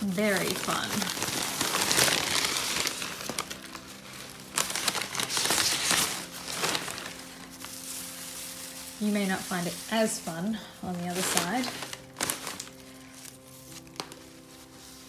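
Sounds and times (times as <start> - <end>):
paper rustling and crumpling: 0.0 - 15.0.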